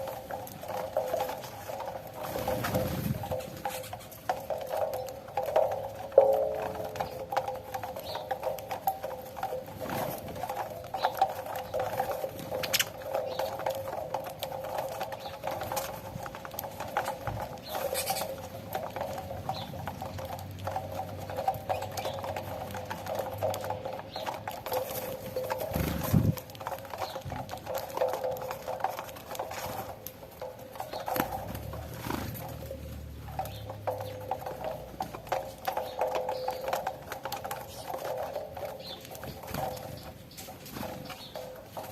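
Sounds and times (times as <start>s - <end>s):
birds pecking seeds: 0.0s - 41.9s
steady background noise: 0.0s - 41.9s.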